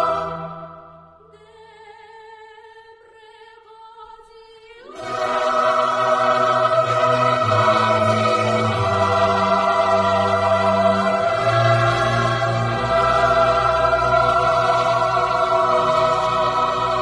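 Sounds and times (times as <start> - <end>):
operatic choir singing: 0.0 - 17.0.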